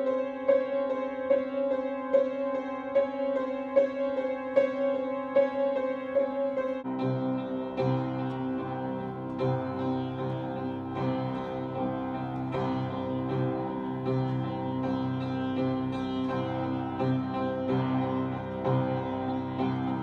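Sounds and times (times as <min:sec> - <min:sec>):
out-of-tune piano chords: 0:00.0 - 0:20.0.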